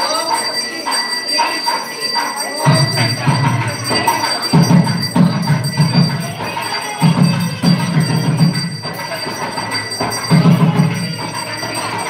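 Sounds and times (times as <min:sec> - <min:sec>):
temple bells ringing: 0:00.0 - 0:12.0.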